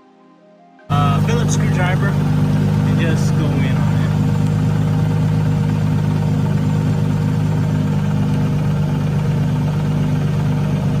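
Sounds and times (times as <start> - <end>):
low machine hum: 0.9 - 11.0.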